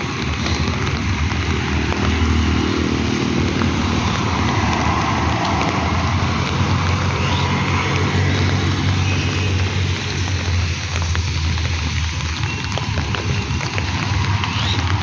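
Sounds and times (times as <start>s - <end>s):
low rumble: 0.0s - 15.0s
steady rain: 0.0s - 15.0s.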